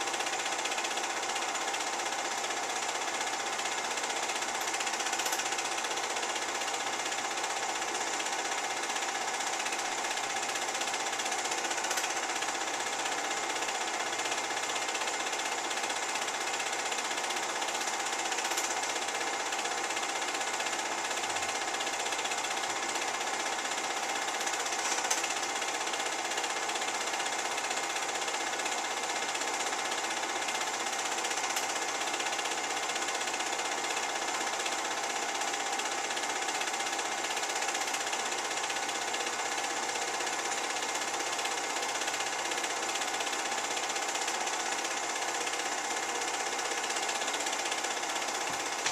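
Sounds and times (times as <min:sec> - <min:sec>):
film projector clattering: 0:00.0 - 0:48.9.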